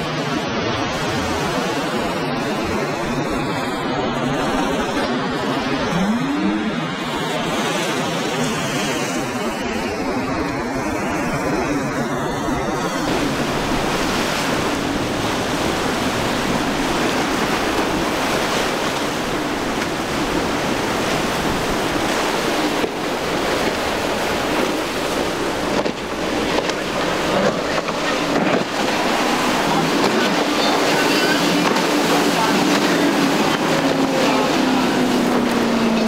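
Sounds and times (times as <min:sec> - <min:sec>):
outboard engines droning: 0:00.0 - 0:36.0
surf breaking: 0:00.0 - 0:36.0
wind buffeting microphone: 0:00.0 - 0:36.0.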